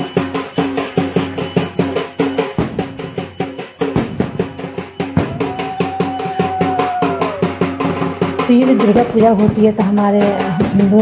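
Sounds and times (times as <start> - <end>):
fast rhythmic drumming: 0.0 - 11.0.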